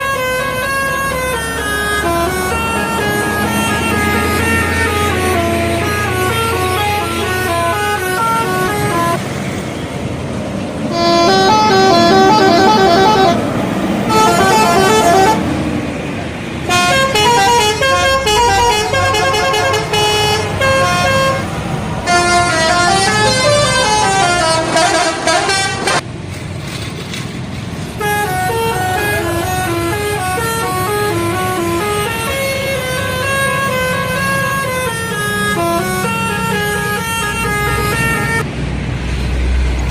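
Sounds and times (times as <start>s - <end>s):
musical bus horns playing melodies: 0.0s - 9.3s, 10.8s - 16.0s, 16.6s - 26.0s, 28.0s - 38.5s
bus engine: 0.0s - 39.9s
traffic noise: 0.0s - 39.9s.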